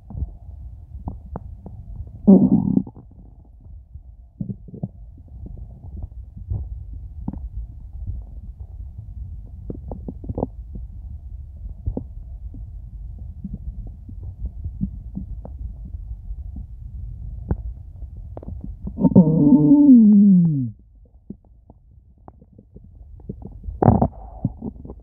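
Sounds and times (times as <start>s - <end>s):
stomach rumbling and gurgling: 0.0s - 25.0s.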